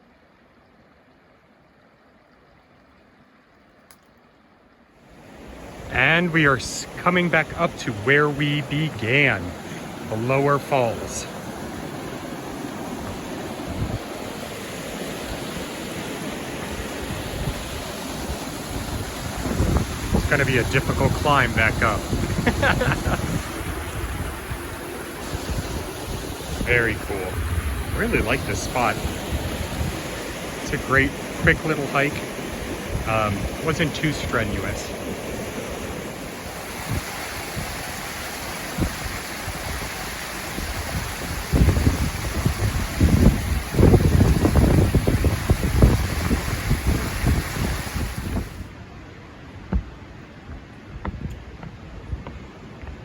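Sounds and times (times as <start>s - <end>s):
waterfall rushing: 5.1s - 48.6s.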